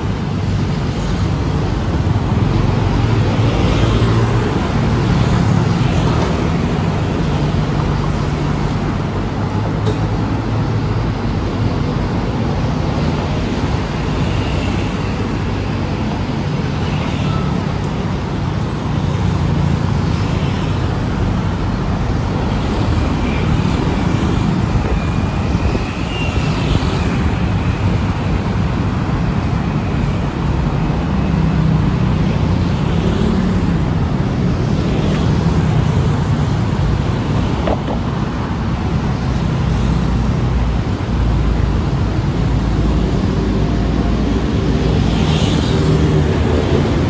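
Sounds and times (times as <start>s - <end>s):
road traffic: 0.0s - 47.0s.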